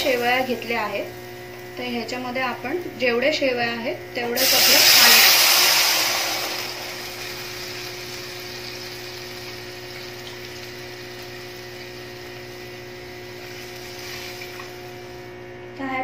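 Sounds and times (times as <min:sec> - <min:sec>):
water sizzling in hot oil: 0:00.0 - 0:03.2, 0:04.2 - 0:15.4.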